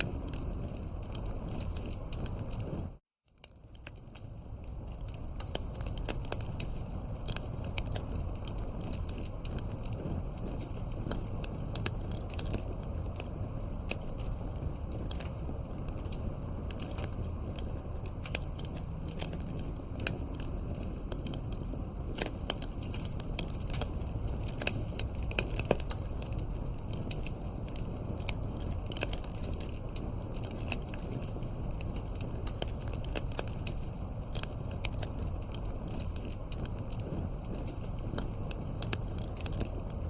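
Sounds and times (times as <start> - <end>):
campfire crackling: 0.0 - 40.0.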